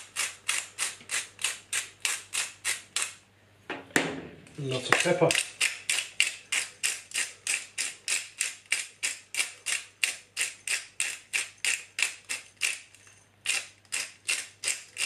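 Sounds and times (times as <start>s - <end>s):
pepper grinder grinding: 0.0s - 3.2s, 4.5s - 15.0s.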